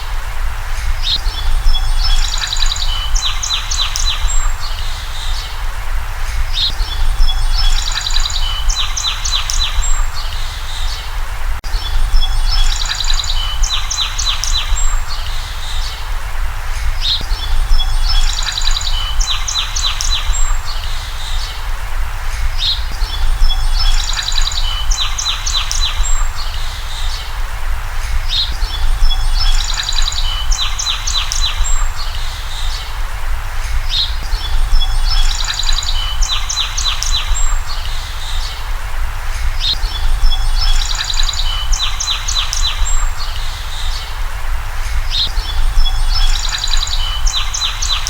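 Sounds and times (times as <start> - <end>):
steady low rumble: 0.0 - 47.5
songbird chirping and trilling: 0.0 - 48.0.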